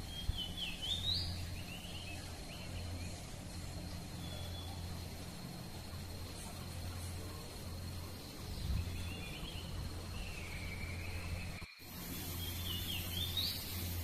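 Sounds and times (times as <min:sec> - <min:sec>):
steady low rumble: 0:00.0 - 0:14.0
thin high insect tone: 0:00.0 - 0:14.0.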